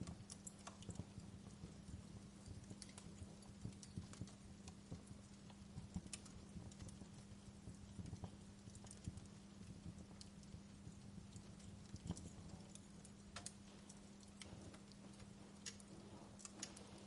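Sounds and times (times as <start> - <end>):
steady low hum: 0.0 - 17.0
wood fire crackling: 0.0 - 17.0.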